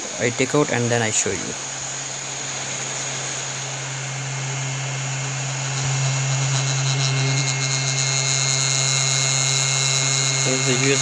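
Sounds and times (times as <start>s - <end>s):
hot air blower hum: 0.0s - 11.0s.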